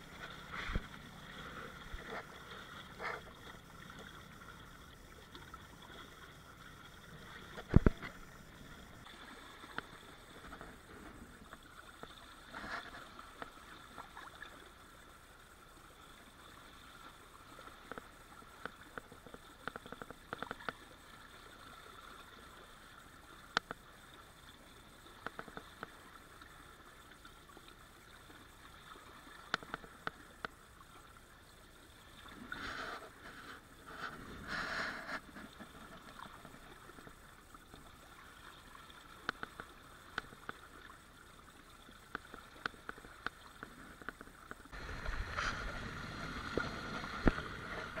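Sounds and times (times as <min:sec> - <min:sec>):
water rushing along boat hulls: 0:00.0 - 0:48.0.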